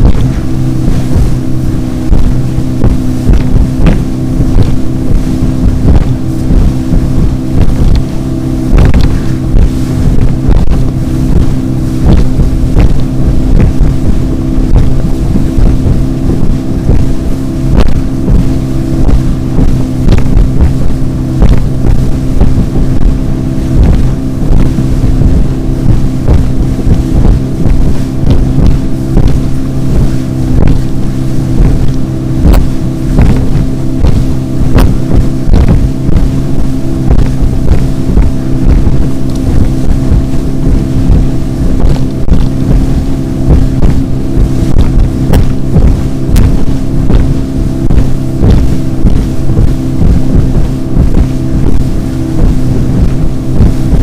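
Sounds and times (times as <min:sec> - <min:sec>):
hull knocking on waves: 0:00.0 - 0:54.0
motorboat engine running: 0:00.0 - 0:54.0
wind noise on microphone: 0:00.0 - 0:54.0.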